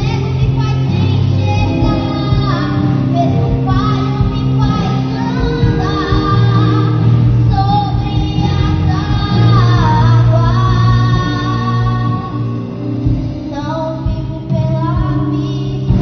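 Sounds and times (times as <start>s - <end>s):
boy singing into a microphone: 0.0s - 16.0s
instrumental accompaniment: 0.0s - 16.0s.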